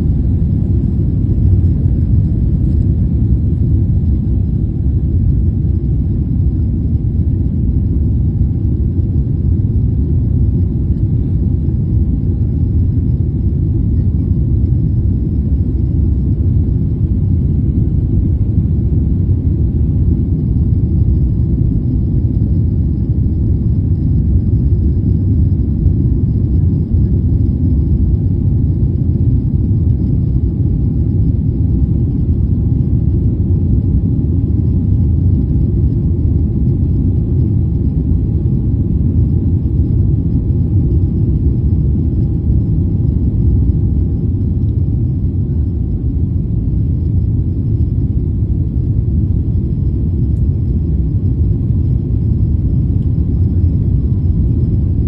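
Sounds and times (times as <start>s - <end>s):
airliner cabin rumble: 0.0s - 55.0s
faint high hum: 0.0s - 55.0s.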